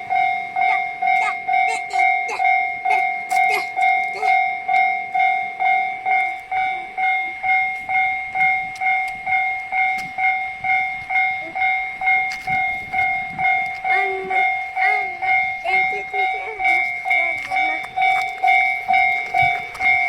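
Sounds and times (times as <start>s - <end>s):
level-crossing warning bell ringing: 0.0s - 20.0s.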